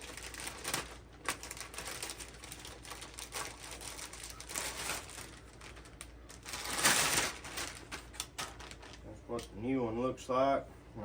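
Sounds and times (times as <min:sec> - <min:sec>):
packaging rustling: 0:00.0 - 0:09.2.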